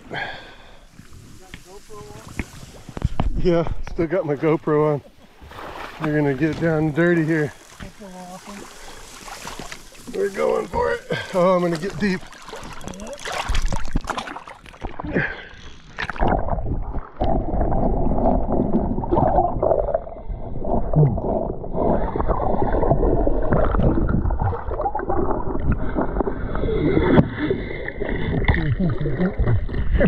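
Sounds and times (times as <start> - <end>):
muffled underwater churning: 0.0 - 30.0
water splashing and gurgling: 0.0 - 30.0.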